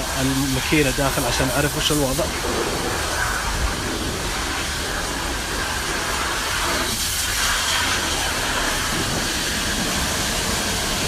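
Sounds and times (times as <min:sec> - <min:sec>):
pressure washer spraying: 0:00.0 - 0:11.0.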